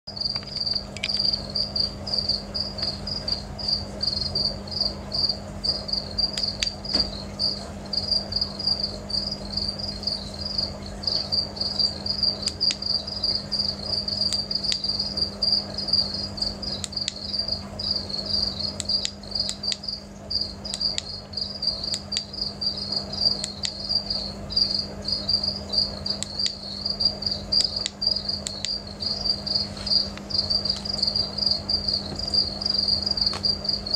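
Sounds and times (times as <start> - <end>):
crickets chirping: 0.1 - 33.9
low steady hum: 0.1 - 33.9.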